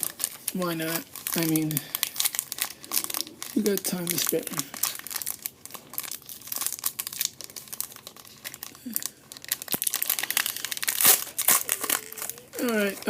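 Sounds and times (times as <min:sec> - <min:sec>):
plastic wrapper crinkling and tearing: 0:00.0 - 0:13.0.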